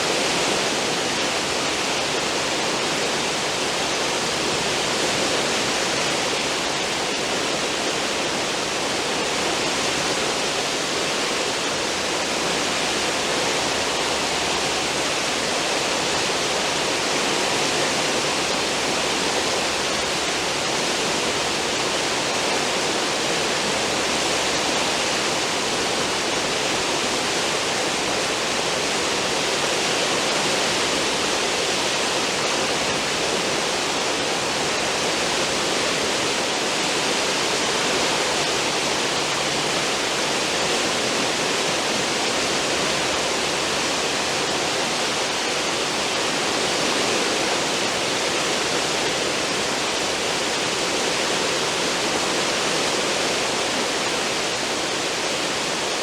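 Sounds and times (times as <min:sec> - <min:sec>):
ship wake foaming water: 0:00.0 - 0:56.0.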